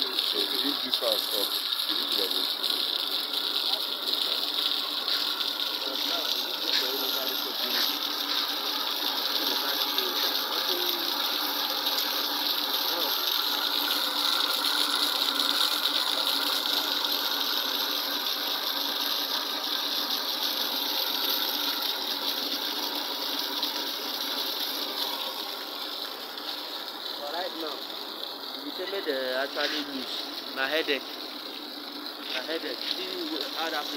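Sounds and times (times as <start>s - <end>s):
liquid splashing onto wet concrete: 0.0s - 33.9s
liquid transfer pump running: 0.0s - 33.9s.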